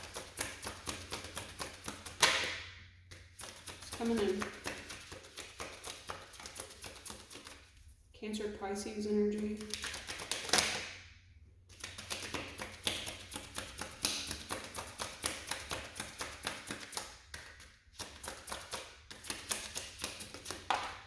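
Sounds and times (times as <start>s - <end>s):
cards being shuffled: 0.0s - 2.5s, 3.1s - 7.9s, 9.6s - 10.9s, 11.7s - 21.0s.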